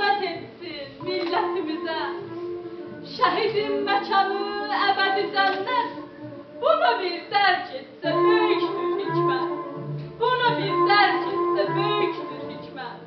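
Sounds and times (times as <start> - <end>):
background music with low notes: 0.0 - 13.0
woman singing a wailing lament: 0.9 - 13.0.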